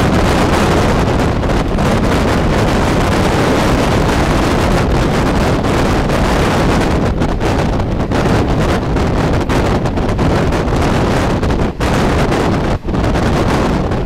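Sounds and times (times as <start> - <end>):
train running rumble: 0.0 - 14.0
wind buffeting microphone: 0.0 - 14.0.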